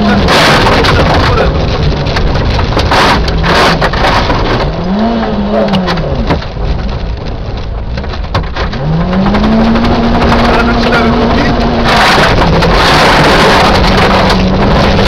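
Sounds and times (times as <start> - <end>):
gravel rattling against car underside: 0.0 - 15.0
rally car engine revving: 0.0 - 15.0.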